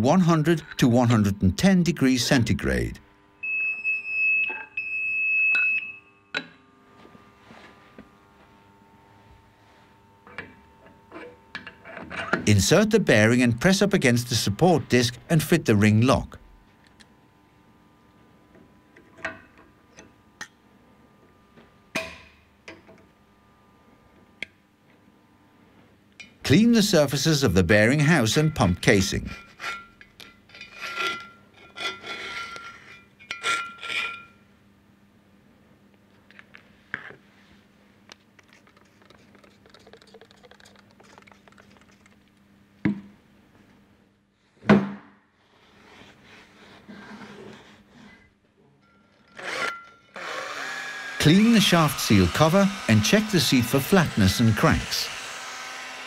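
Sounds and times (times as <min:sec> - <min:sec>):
faint steady hum: 0:00.0 - 0:55.3.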